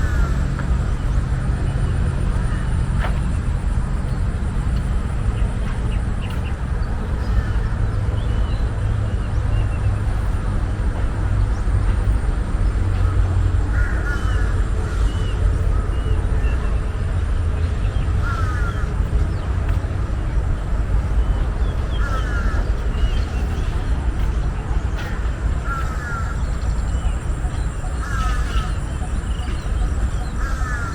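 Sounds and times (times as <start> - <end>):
birds chirping: 0.0 - 30.9
low rumble of city traffic: 0.0 - 30.9.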